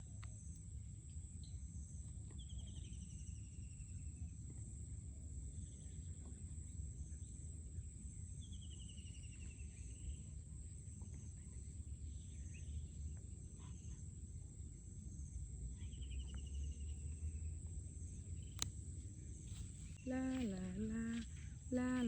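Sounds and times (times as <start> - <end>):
constant low rumble: 0.0 - 22.0
faint bird chirps: 0.4 - 4.4, 5.5 - 22.0.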